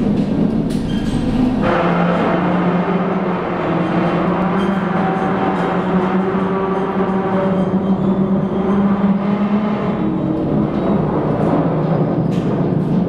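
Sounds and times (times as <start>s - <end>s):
machinery whirring: 0.0s - 13.0s.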